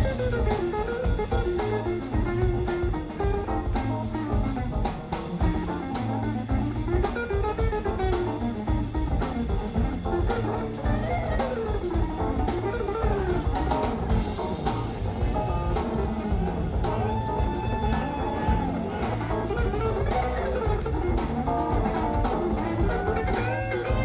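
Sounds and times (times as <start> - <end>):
bluesy guitar melody: 0.0 - 24.0
drum kit steady beat: 0.0 - 24.0.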